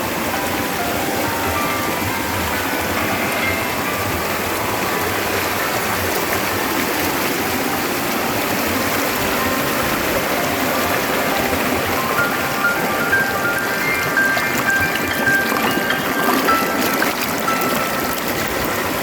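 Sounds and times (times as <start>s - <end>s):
faint music notes: 0.0s - 19.0s
stream rushing over rocks: 0.0s - 19.0s.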